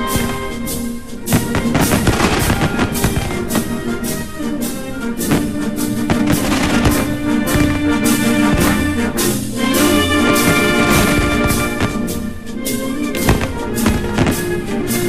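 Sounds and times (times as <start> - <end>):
brass band music: 0.0 - 15.0
drum and cymbal strikes: 0.0 - 15.0.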